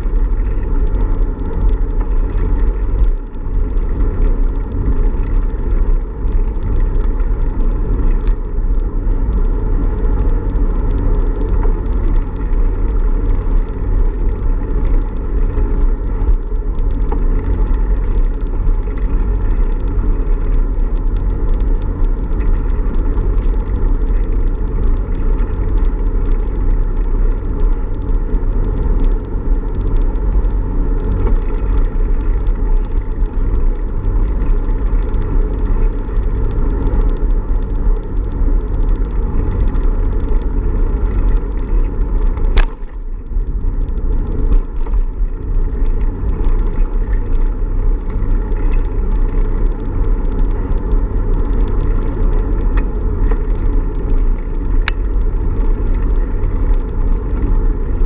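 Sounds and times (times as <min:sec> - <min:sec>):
road noise: 0:00.0 - 0:58.0
wind rumble on microphone: 0:00.0 - 0:58.0.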